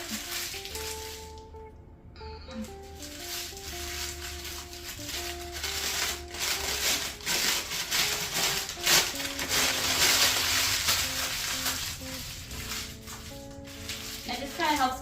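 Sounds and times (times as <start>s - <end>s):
paper crumpling by hand: 0.0s - 1.5s, 2.6s - 15.0s
background music: 0.0s - 15.0s.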